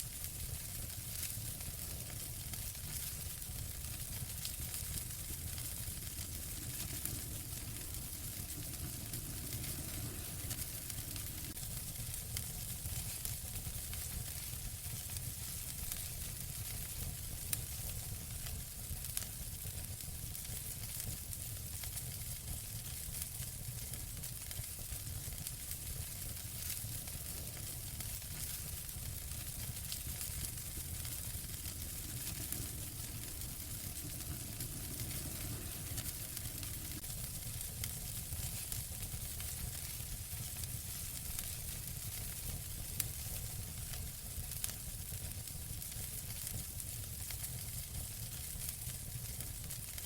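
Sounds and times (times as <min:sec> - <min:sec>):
wood fire crackling: 0:00.0 - 0:50.0
fire popping: 0:00.1 - 0:50.0.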